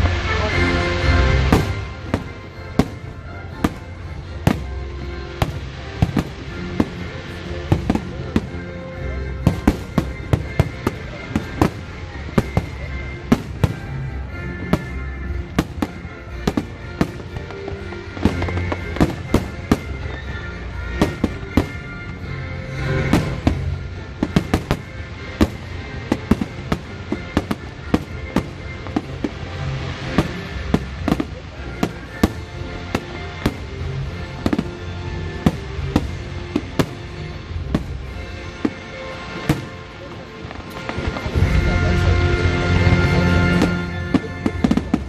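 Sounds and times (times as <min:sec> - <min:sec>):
fireworks bangs and crackles: 0:00.0 - 0:45.0
music playing: 0:00.0 - 0:45.0.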